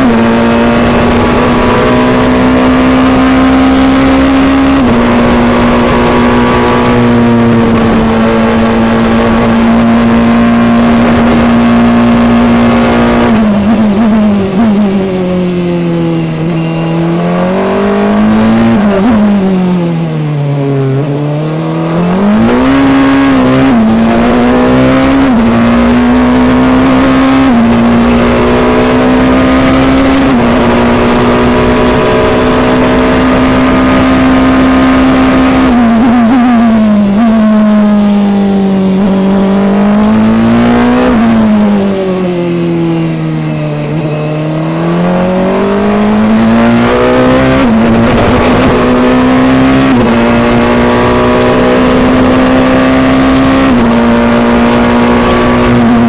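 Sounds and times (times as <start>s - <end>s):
gear changes: 0.0s - 56.0s
race car engine at full throttle: 0.0s - 56.0s.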